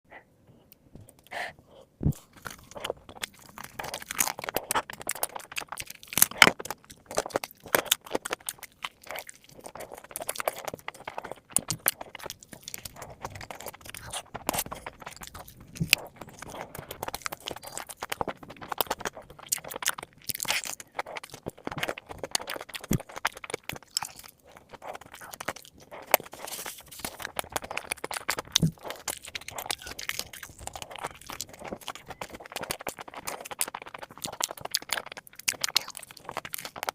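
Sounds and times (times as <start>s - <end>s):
crunching and chewing fried chicken: 1.1s - 36.9s.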